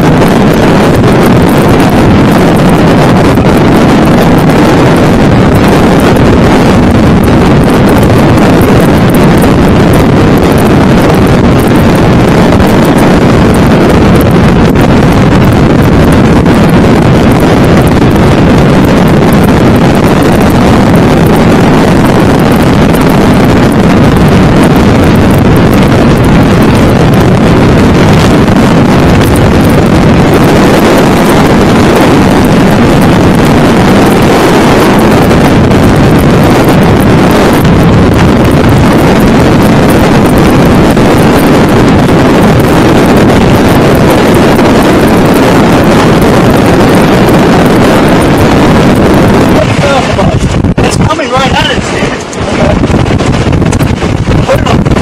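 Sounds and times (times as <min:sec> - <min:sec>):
strong wind buffeting microphone: 0:00.0 - 0:55.0.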